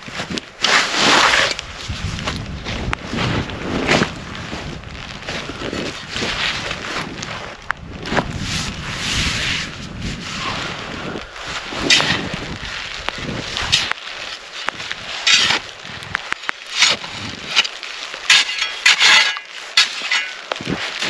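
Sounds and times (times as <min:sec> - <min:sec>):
crunching and cracking: 0:00.0 - 0:21.0.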